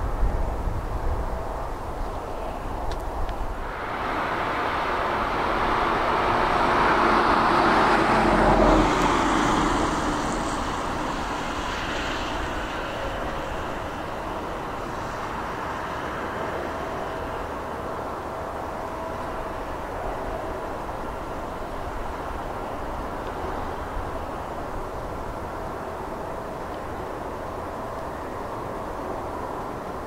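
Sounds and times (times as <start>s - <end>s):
jet airliner engines passing: 0.0s - 30.0s.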